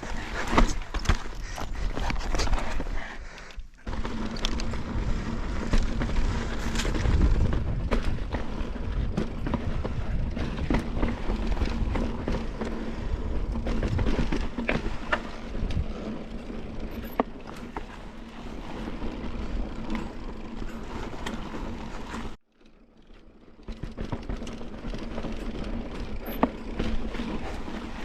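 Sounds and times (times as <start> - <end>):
bike knocking and rattling: 0.0 - 28.0
bike tyres rumbling on rock: 0.0 - 28.0.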